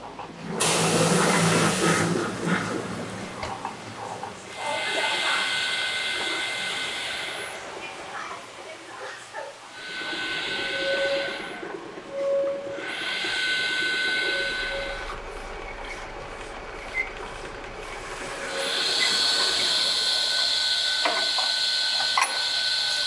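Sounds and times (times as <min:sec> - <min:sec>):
machinery whirring with high whine: 0:00.2 - 0:23.0.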